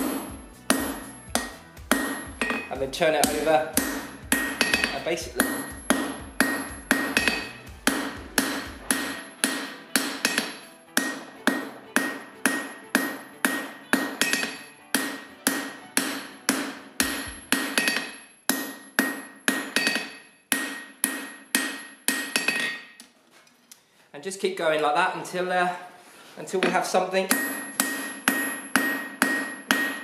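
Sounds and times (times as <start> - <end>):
hammer striking steel on anvil: 0.0 - 23.0, 26.6 - 30.0.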